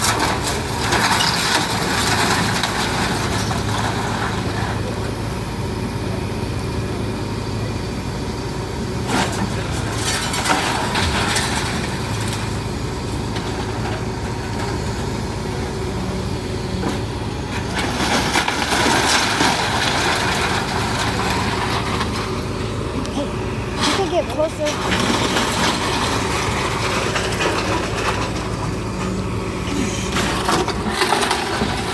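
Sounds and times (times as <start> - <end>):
house cracking and crunching: 0.0 - 4.9, 9.1 - 15.8, 16.5 - 31.9
diesel engine running: 0.0 - 31.9.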